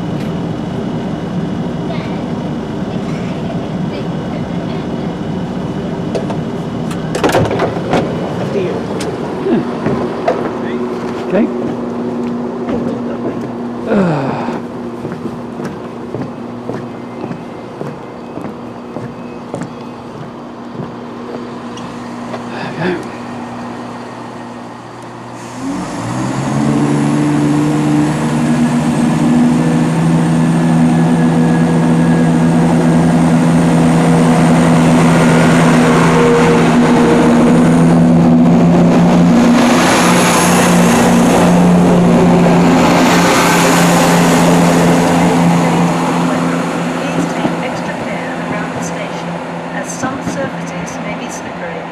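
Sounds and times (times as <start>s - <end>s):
diesel train engines running: 0.0s - 51.9s.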